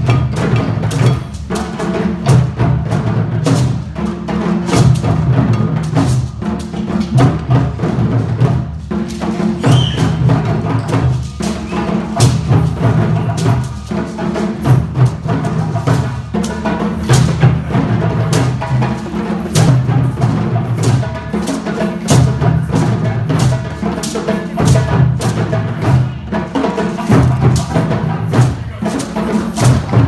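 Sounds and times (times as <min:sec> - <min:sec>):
hand drums playing rhythm: 0:00.0 - 0:30.0.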